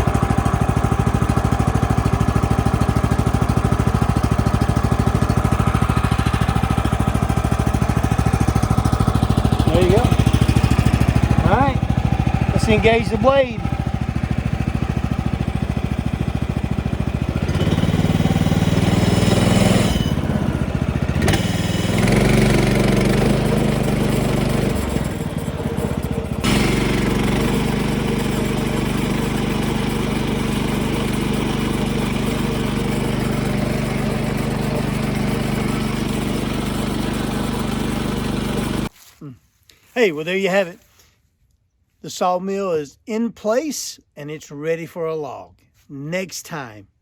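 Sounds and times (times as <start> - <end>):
sawmill gas engine running: 0.0 - 39.4.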